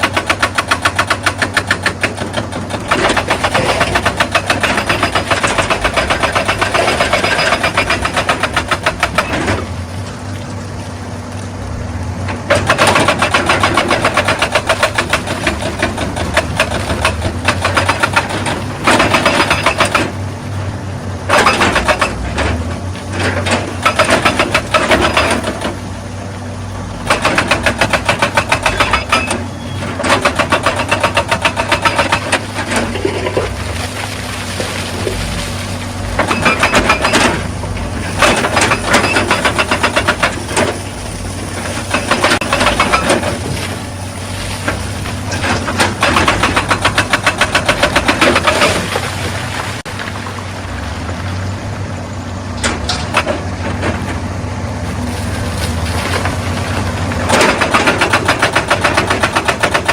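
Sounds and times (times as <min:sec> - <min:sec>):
hydraulic breaker hammering stone: 0:00.0 - 0:09.8, 0:12.5 - 0:20.2, 0:21.2 - 0:25.9, 0:27.0 - 0:49.9, 0:55.9 - 0:59.9
diesel engine running: 0:00.0 - 0:59.9.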